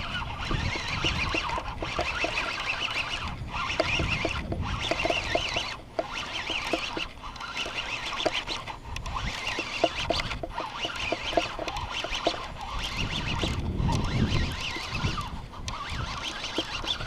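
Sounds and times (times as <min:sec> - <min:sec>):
birds chirping and warbling: 0:00.0 - 0:17.0.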